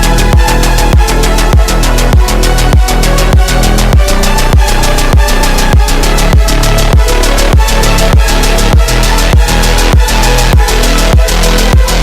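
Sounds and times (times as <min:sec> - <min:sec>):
deep kick drum: 0:00.0 - 0:12.0
fast ticking hi-hats: 0:00.0 - 0:12.0.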